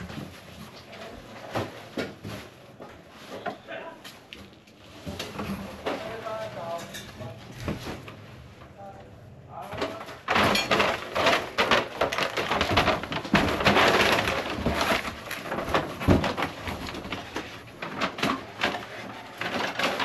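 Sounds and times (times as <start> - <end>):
clutter being handled: 0.0 - 20.0.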